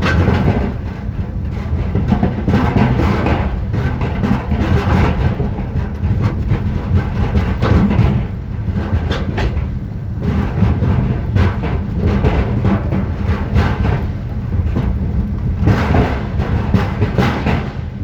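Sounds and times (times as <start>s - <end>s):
vehicle rumbling and rattling: 0.0s - 18.0s.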